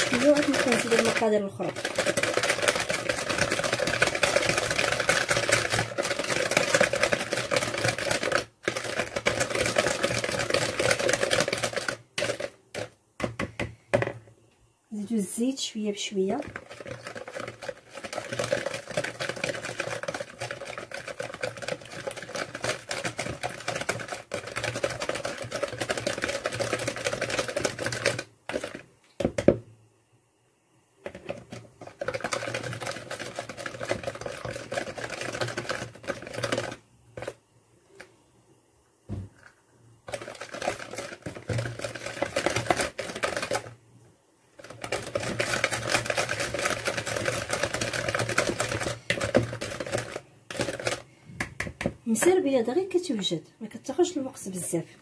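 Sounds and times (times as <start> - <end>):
whisk rattling against plastic bowl: 0.0 - 14.2, 15.5 - 29.6, 31.0 - 37.4, 39.4 - 43.8, 44.5 - 53.1.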